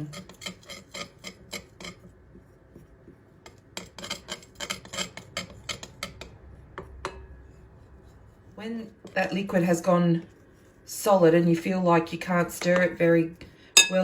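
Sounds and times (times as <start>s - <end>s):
spoon stirring in a bowl: 0.0s - 10.8s, 12.3s - 14.0s.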